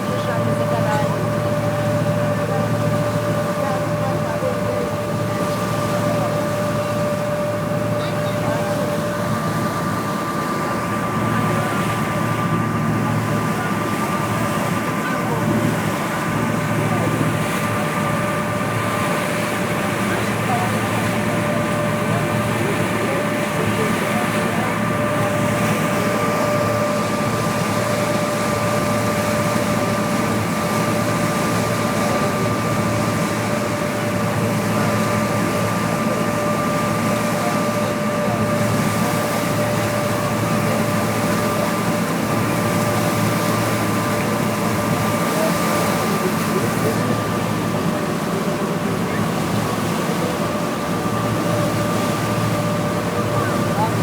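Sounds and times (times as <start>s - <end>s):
engine drone: 0.0s - 54.0s
even wash of noise: 0.0s - 54.0s.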